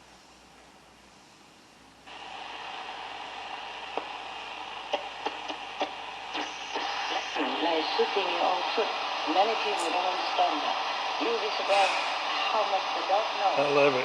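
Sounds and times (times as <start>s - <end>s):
radio crackles: 2.1s - 14.0s
radio speaker hissing: 2.1s - 14.0s
radio voice: 2.2s - 14.0s.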